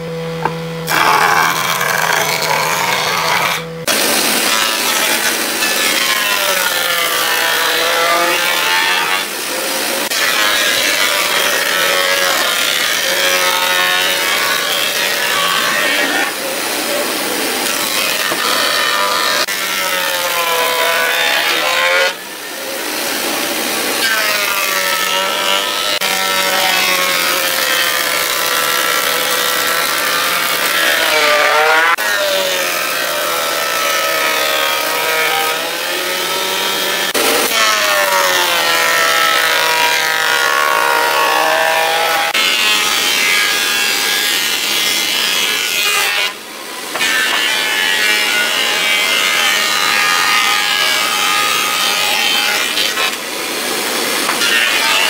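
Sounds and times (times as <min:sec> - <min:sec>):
thickness planer whining: 0:00.0 - 0:55.0.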